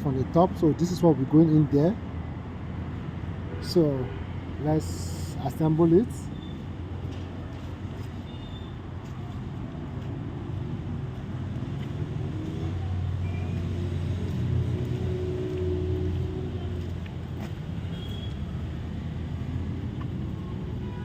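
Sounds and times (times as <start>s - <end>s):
motor vehicle rumbling: 0.0s - 21.0s.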